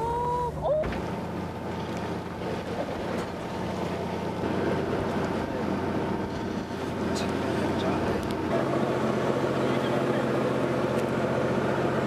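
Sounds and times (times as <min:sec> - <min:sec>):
boat engine drone: 0:00.0 - 0:12.0
wind: 0:00.0 - 0:12.0.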